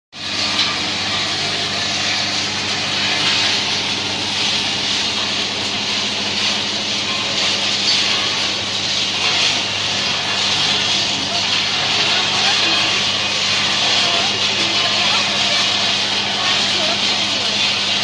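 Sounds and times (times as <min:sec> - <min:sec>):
motor humming: 0:00.2 - 0:18.0.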